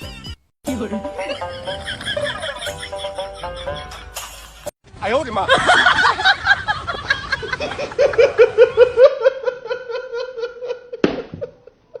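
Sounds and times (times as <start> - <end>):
person laughing hard: 0.0 - 4.7, 5.5 - 11.8.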